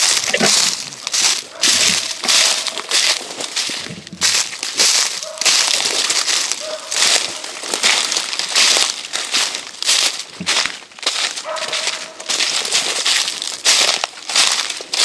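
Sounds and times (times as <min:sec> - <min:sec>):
footsteps crunching dry leaves: 0:00.0 - 0:15.0.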